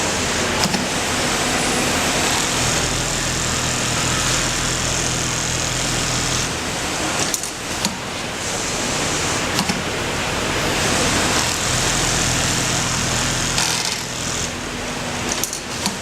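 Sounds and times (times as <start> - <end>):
sewing machine whirring: 0.0 - 16.0.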